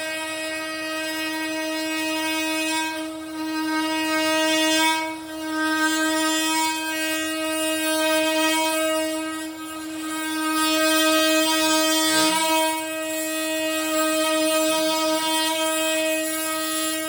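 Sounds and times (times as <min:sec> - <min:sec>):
oscillating multi-tool cutting wood: 0:00.0 - 0:17.0.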